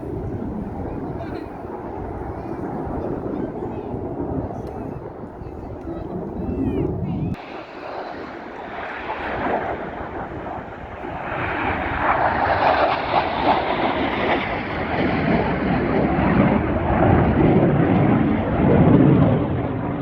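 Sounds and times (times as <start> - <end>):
airplane flying past: 0.0 - 20.0.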